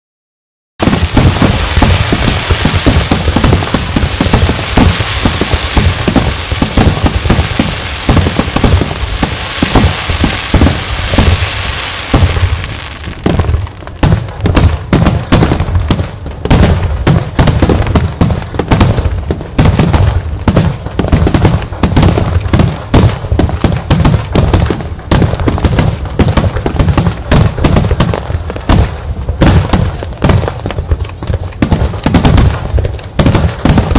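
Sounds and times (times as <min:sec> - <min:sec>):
firework shells bursting: 0:00.8 - 0:33.9.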